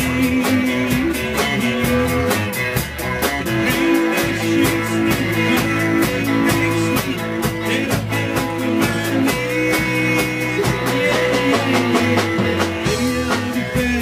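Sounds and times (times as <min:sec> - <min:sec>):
bass: 0:00.0 - 0:14.0
drum kit: 0:00.0 - 0:14.0
electric guitar: 0:00.0 - 0:14.0.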